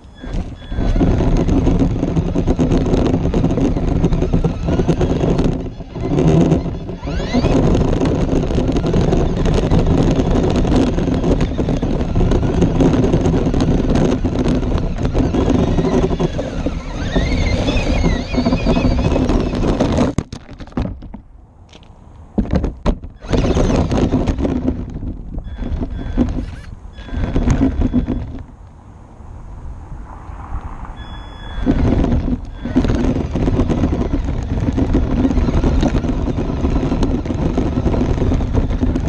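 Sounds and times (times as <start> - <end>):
electric motor whine: 0.0 - 20.1, 23.2 - 28.4, 31.0 - 39.0
rumble of tyres and chassis: 0.0 - 39.0.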